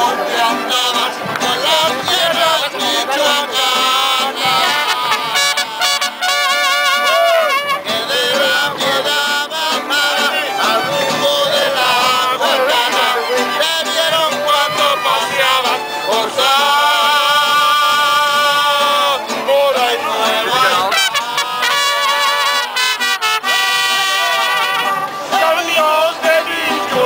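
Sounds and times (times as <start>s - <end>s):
singers with vibrato: 0.0s - 27.0s
strummed acoustic guitars: 0.0s - 27.0s.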